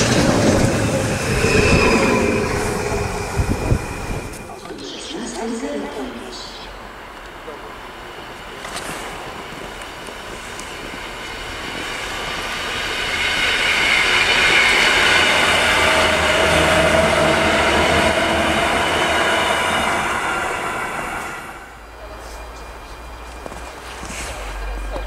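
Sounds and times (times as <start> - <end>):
electric train passing: 0.0 - 25.0
steady whine: 0.0 - 25.0.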